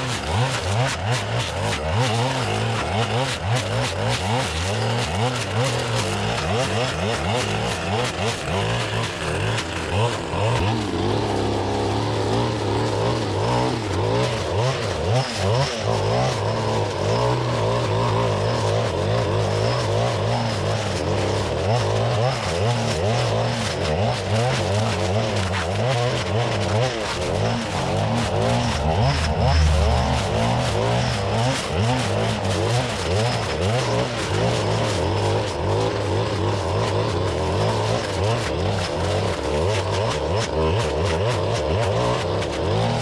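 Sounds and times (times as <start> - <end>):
clearing saw engine revving: 0.0 - 43.0.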